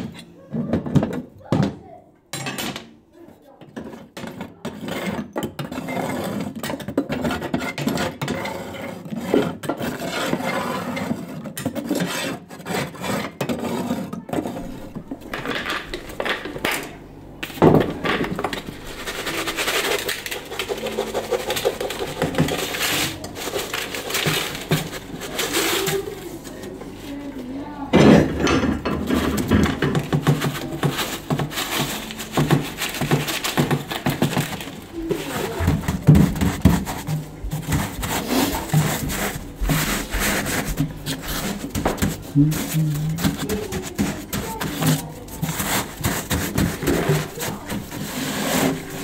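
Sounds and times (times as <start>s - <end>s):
scraping and rubbing: 3.7s - 16.9s, 17.8s - 49.0s.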